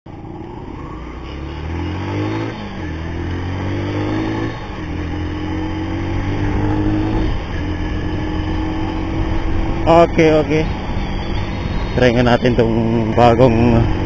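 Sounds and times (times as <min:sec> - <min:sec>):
motorcycle engine accelerating: 0:00.1 - 0:14.0.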